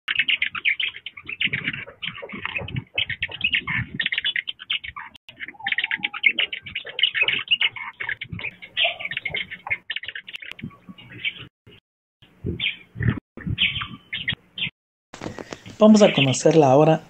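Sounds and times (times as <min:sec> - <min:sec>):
many birds chirping: 0:00.1 - 0:17.0.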